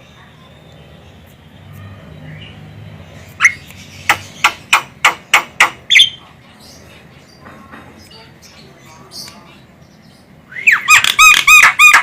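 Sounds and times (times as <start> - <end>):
myna bird calling: 0.7 - 12.0.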